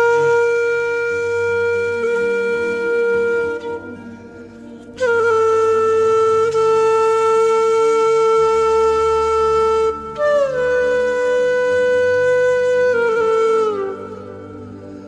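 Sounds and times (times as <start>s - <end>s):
flute notes: 0.0s - 15.0s.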